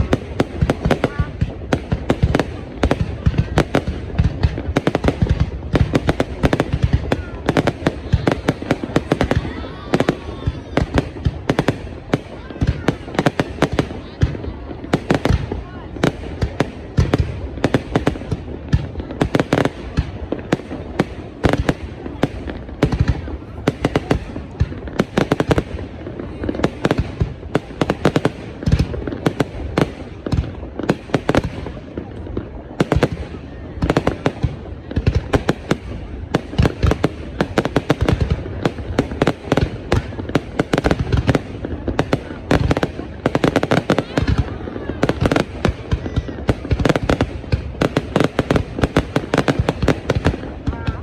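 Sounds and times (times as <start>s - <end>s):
fireworks bangs and pops: 0.0s - 51.0s.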